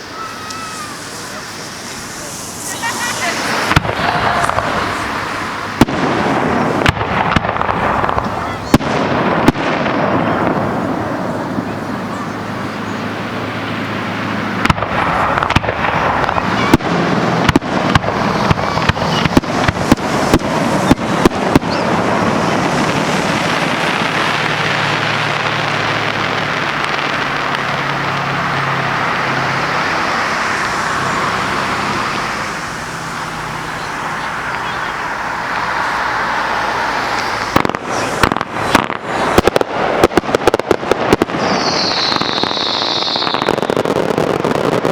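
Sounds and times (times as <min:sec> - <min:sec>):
crowd voices hubbub: 0:00.0 - 0:06.9, 0:07.8 - 0:40.0
fireworks banging: 0:00.0 - 0:44.9.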